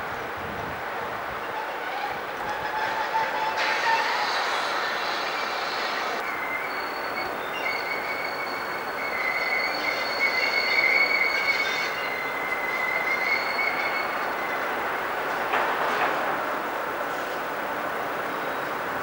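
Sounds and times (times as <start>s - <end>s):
train rumble: 0.0s - 19.0s
train wheels squealing on rails: 1.2s - 17.5s.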